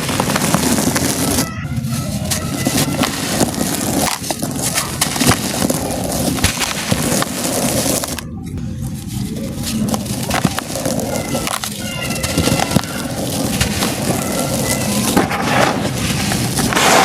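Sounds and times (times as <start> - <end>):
cement shapes crumbling: 0.0 - 17.0.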